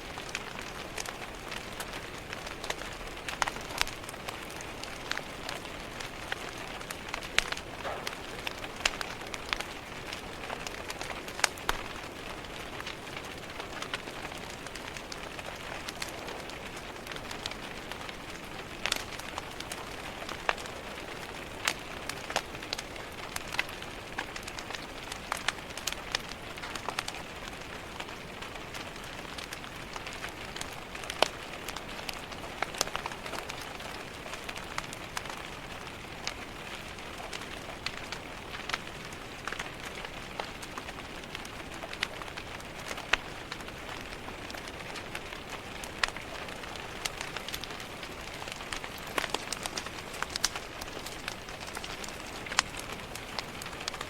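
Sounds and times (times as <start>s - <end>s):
rain tapping on a window: 0.0s - 54.0s
wood fire crackling: 0.0s - 54.0s.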